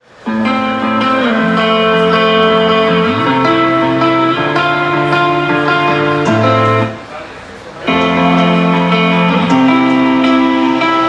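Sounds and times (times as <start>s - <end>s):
guitar music through speaker: 0.0s - 11.0s.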